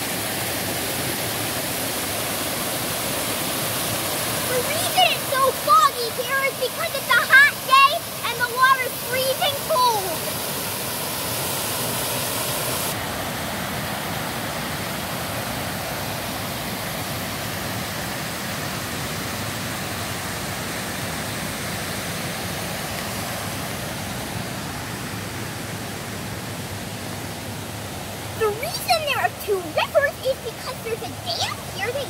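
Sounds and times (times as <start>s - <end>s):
waterfall rushing over rocks: 0.0s - 32.0s.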